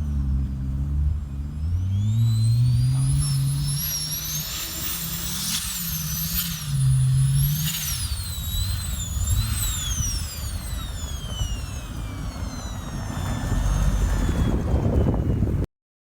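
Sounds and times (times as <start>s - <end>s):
engine rumble: 0.0s - 15.7s
turbocharger whistling: 0.0s - 15.7s.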